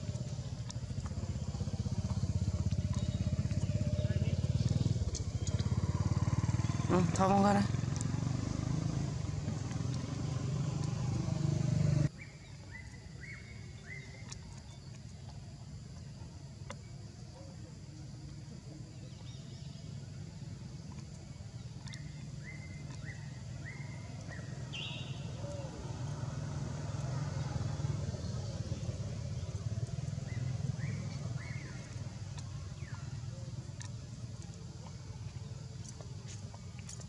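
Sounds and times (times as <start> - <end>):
vehicle engine rumble: 0.0 - 37.0
bird chirping: 0.1 - 8.2, 9.1 - 15.4, 18.9 - 37.0.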